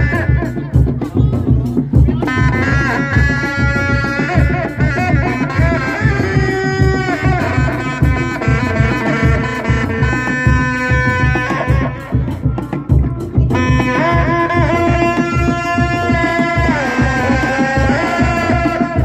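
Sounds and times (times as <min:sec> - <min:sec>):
drums in interlocking beat: 0:00.0 - 0:19.0.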